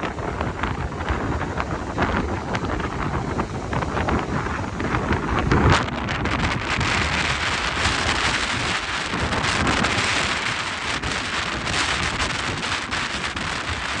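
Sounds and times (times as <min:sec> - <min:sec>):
gusty wind on microphone: 0:00.0 - 0:14.0.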